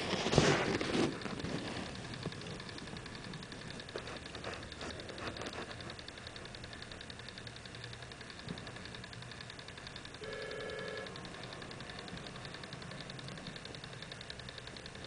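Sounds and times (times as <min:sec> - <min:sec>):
small motor ticking and humming: 0:00.0 - 0:15.0.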